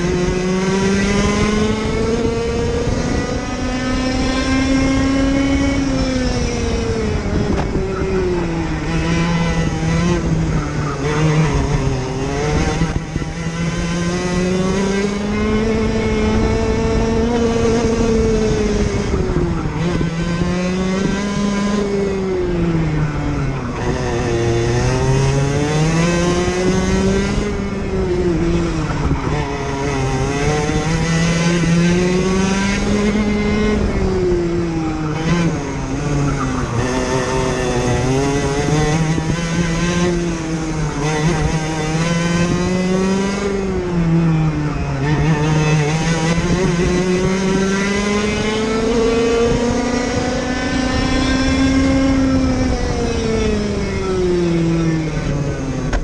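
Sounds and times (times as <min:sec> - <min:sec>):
kart two-stroke engine racing: 0:00.0 - 0:56.0.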